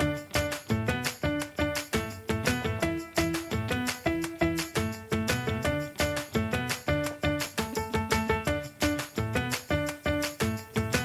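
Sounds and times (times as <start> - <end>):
bouncy music with plucked notes: 0.0 - 11.0.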